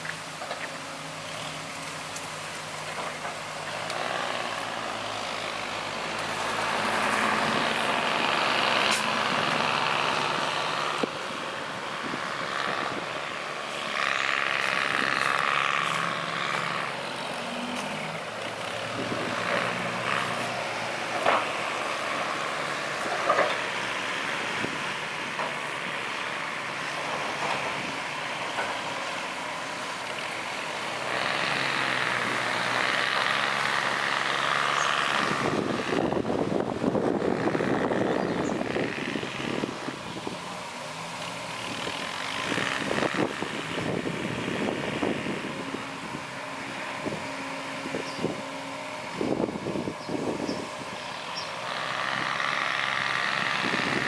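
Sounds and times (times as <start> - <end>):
diesel machinery engine running: 0.0 - 54.0.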